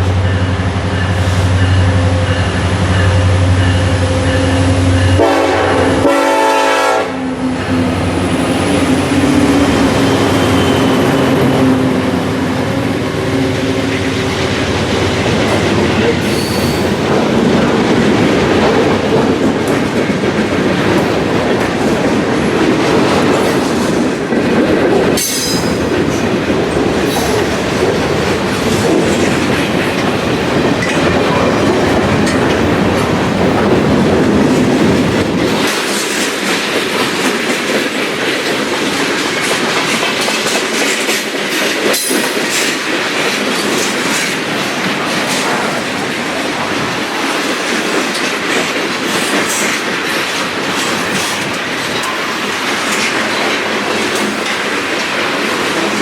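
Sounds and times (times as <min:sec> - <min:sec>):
deep train rumble: 0:00.0 - 0:56.0
train wheels clattering: 0:06.3 - 0:56.0.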